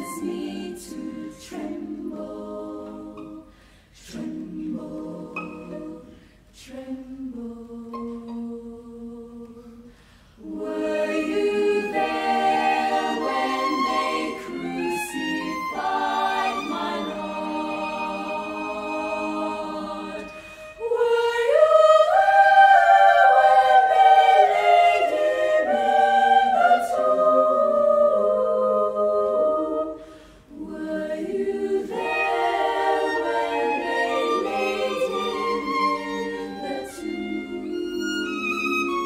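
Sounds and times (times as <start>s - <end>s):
girls' choir singing a cappella: 0.0s - 39.0s.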